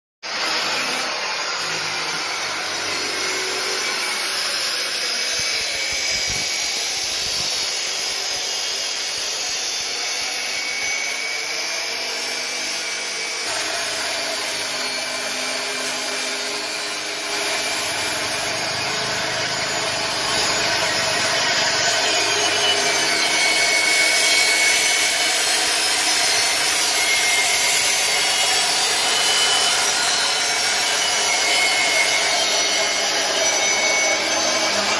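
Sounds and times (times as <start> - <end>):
power tool grinding metal: 0.2 - 34.9.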